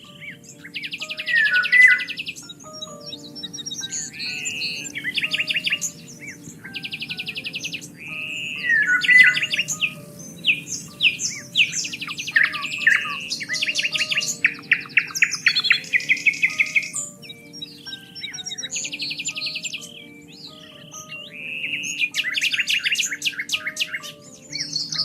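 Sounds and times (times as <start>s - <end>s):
songbirds singing and chirping: 0.0s - 25.0s.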